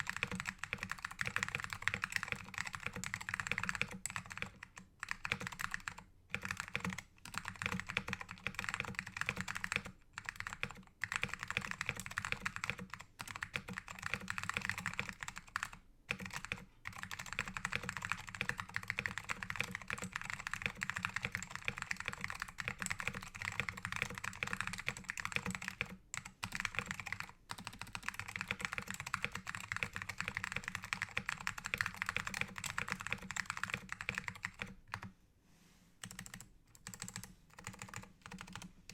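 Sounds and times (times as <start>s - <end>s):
fast mechanical keyboard typing: 0.0s - 35.1s, 36.0s - 38.9s.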